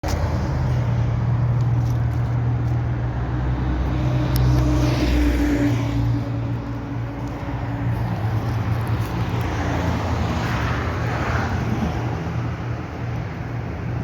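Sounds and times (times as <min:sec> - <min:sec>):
vehicle engine hum: 0:00.0 - 0:14.0
vehicle passing rush: 0:00.0 - 0:14.0.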